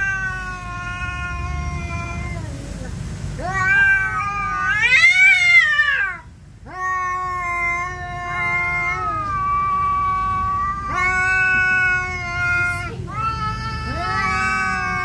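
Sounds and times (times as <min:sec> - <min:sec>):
cats yowling: 0:00.0 - 0:15.0.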